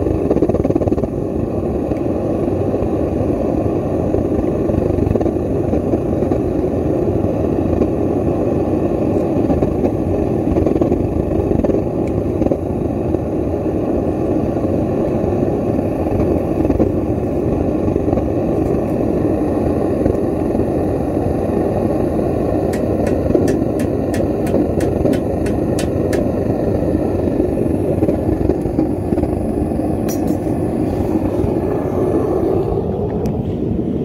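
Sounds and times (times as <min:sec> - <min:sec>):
gas torch flame rushing: 0:00.0 - 0:34.0.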